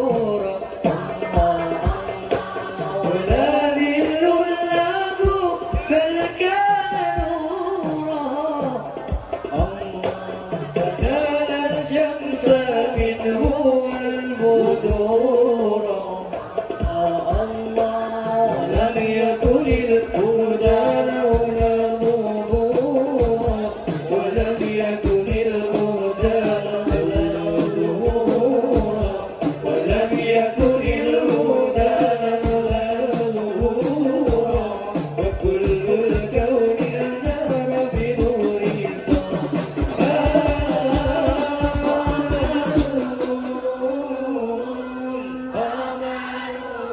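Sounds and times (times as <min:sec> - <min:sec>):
frame drums beating: 0:00.0 - 0:13.7, 0:16.3 - 0:43.8
men singing into microphones: 0:00.0 - 0:46.9.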